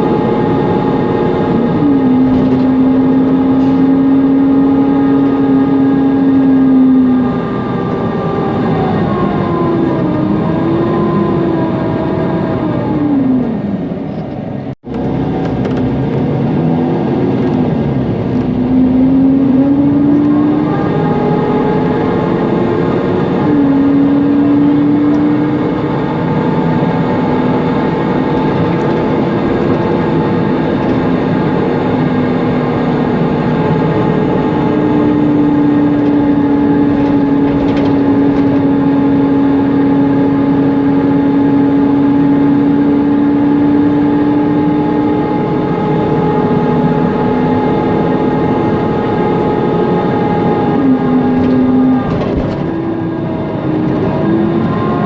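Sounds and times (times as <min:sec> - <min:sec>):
bus engine and fan hum: 0:00.0 - 0:55.0.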